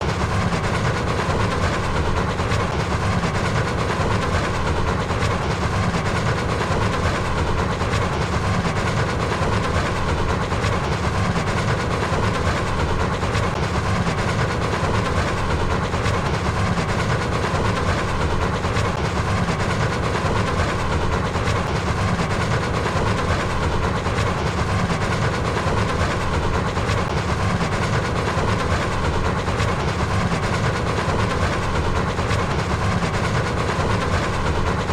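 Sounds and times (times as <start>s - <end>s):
train running on rails: 0.0s - 34.9s.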